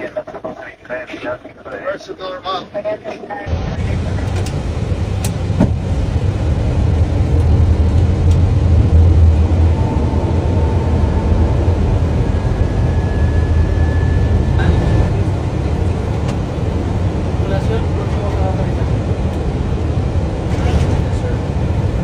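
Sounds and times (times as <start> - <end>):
airliner reverse thrust rumble: 3.5 - 22.0.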